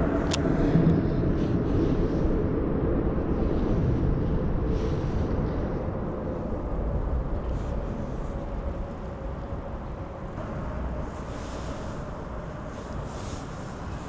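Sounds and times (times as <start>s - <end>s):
faint steady hum: 0.0s - 14.0s
traffic rumble: 0.0s - 14.0s.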